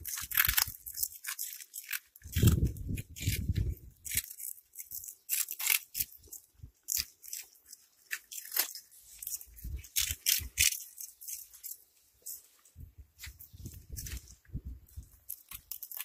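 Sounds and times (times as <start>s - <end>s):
cats chewing crunchy snacks: 0.0s - 12.6s, 13.7s - 16.0s.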